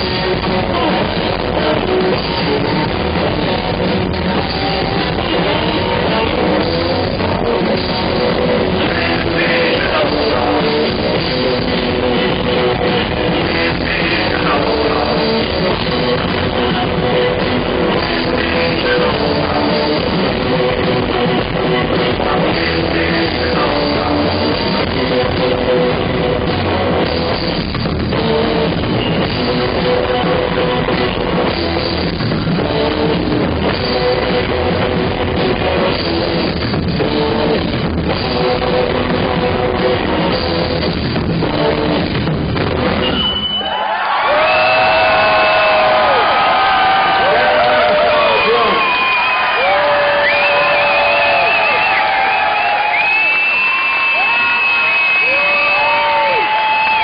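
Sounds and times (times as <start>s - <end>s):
drum kit beat: 0.0s - 57.0s
guitar: 0.0s - 57.0s.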